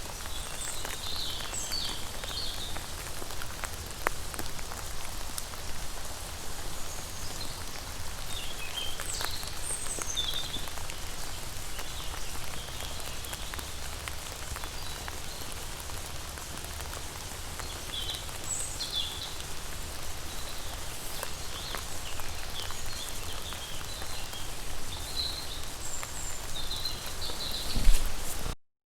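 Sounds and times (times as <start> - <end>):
rain drops ticking on a surface: 0.0 - 28.6.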